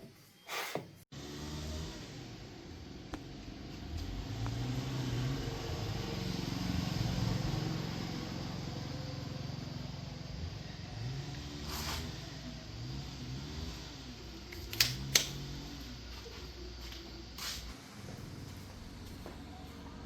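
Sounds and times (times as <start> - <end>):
engine humming: 1.2 - 20.0.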